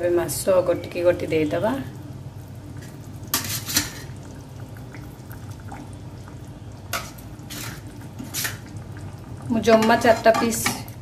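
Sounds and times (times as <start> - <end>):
curry bubbling: 0.4 - 11.0.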